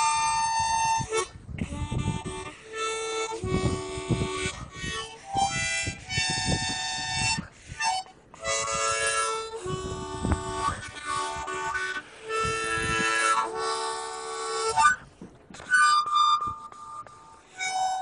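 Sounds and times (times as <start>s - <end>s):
harmonica playing chords: 0.0s - 18.0s.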